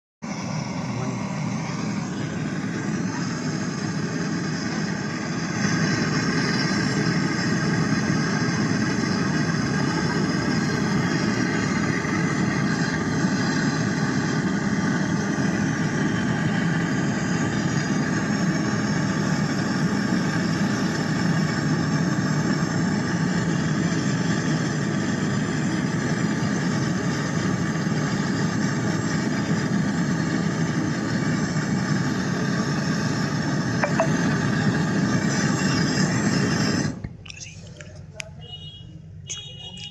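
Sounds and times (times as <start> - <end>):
torch flame roaring: 0.2 - 38.2.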